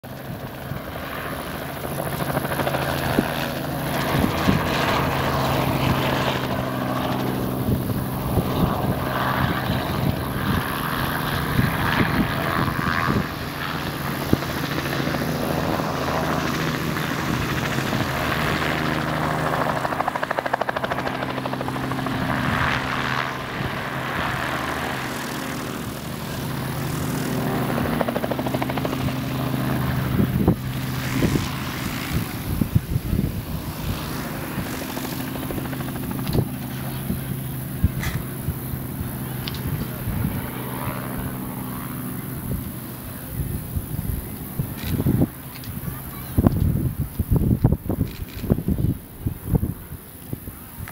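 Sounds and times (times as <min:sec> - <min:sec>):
helicopter flying overhead: 0:00.0 - 0:50.9.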